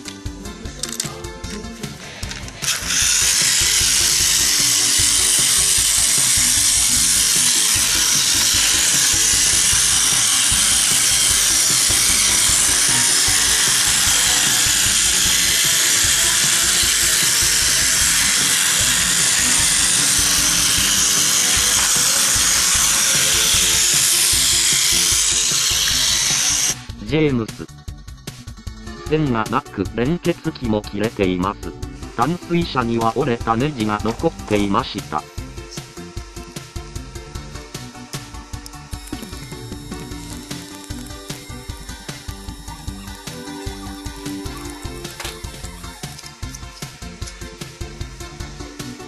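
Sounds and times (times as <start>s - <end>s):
toy train motor whirring: 0.0s - 27.0s, 31.1s - 49.0s.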